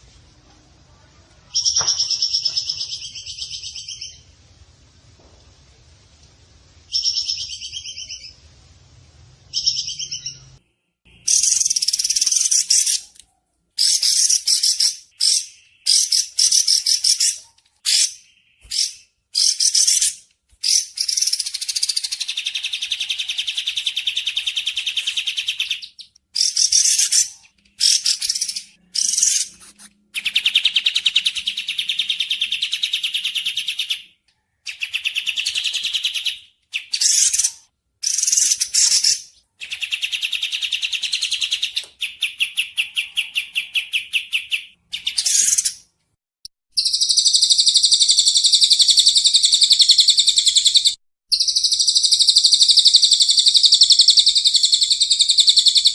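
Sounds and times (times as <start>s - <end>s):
bird song trills: 1.5s - 4.3s, 6.9s - 8.4s, 9.5s - 13.2s, 13.8s - 29.6s, 30.2s - 45.9s, 46.7s - 55.9s.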